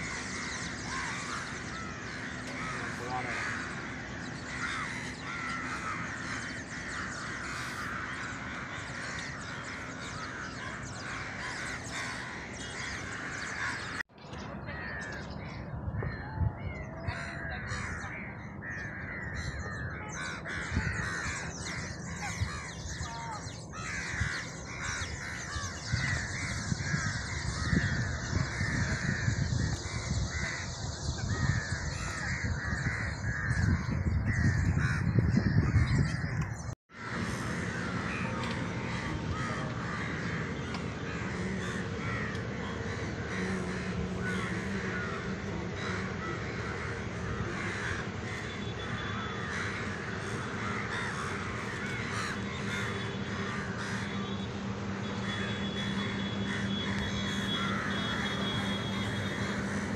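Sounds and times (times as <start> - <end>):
flock of birds chattering: 0.0 - 59.9.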